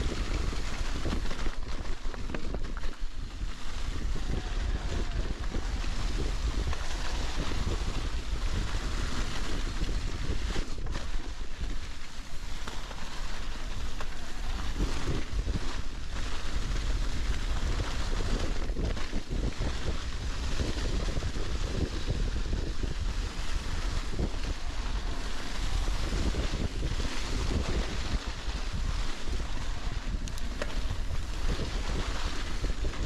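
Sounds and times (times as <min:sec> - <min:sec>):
bike tyres rolling over dry leaves: 0:00.0 - 0:33.0
wind buffeting microphone: 0:00.0 - 0:33.0.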